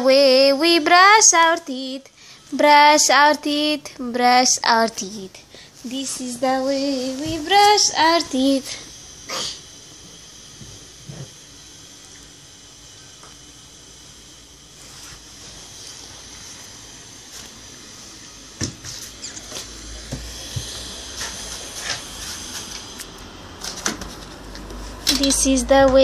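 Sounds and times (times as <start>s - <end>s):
steady faint hiss: 0.0s - 23.2s.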